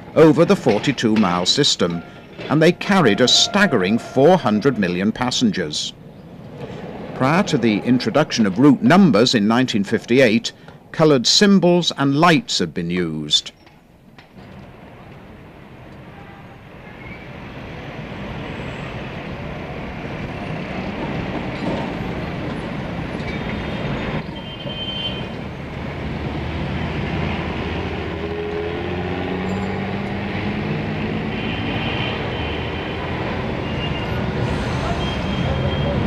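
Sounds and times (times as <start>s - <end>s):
tram rumbling: 0.0s - 11.1s, 13.0s - 36.0s
bus engines running: 0.0s - 12.4s, 13.0s - 36.0s.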